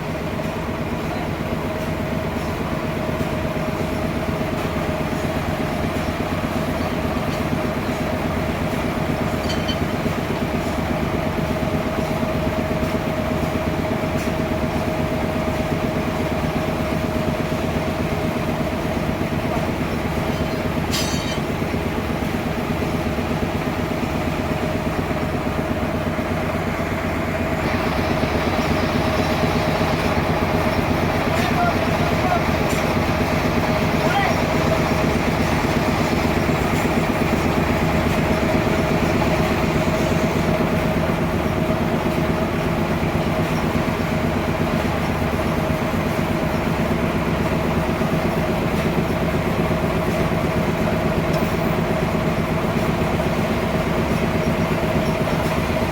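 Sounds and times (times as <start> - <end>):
sawmill machinery whine: 0.0 - 55.9.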